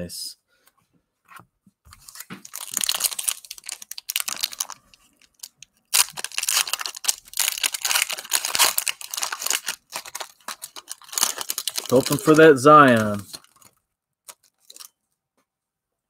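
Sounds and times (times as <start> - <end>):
cellophane wrapper crinkling and tearing: 1.9 - 15.0.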